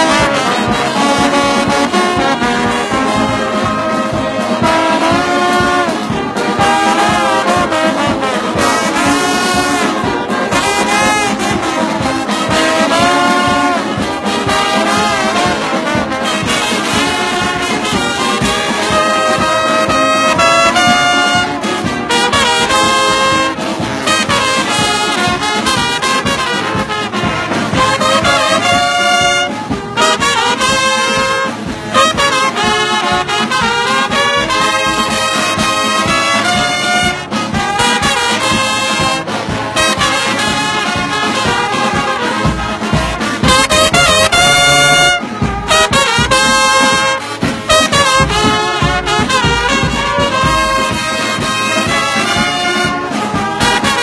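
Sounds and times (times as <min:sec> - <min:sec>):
brass band playing melody: 0:00.0 - 0:54.0.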